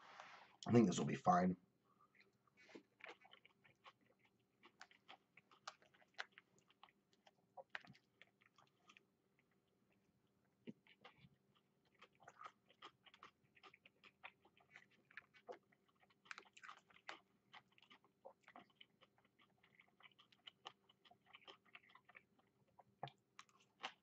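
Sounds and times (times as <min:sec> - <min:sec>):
person chewing food: 0:01.9 - 0:24.0.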